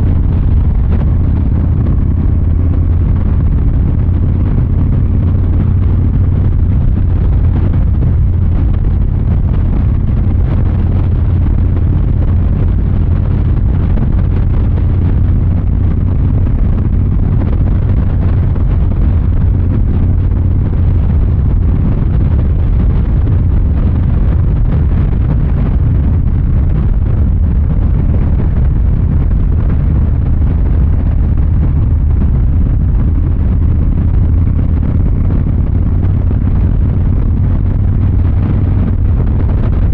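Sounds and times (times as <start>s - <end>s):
motorcycle engine deep rumble: 0.0s - 39.9s.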